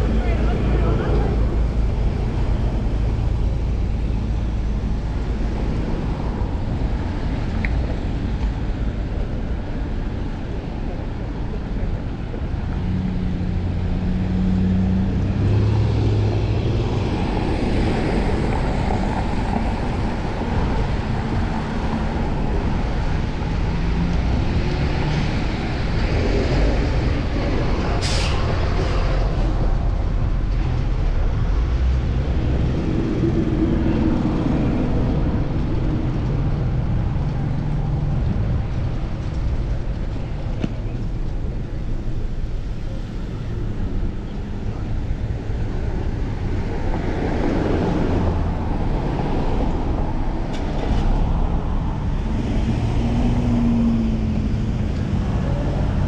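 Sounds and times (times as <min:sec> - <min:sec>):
traffic engines rumbling: 0:00.0 - 0:56.0
wind on microphone: 0:00.0 - 0:56.0.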